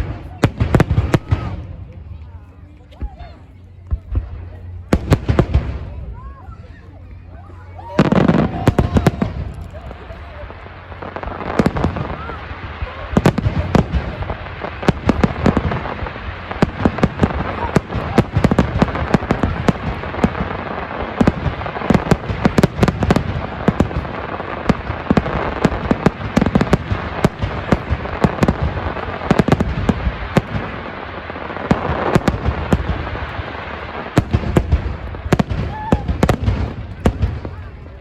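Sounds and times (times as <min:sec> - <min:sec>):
fireworks crackle: 0:00.0 - 0:38.0
fireworks cracks and bangs: 0:00.0 - 0:38.0.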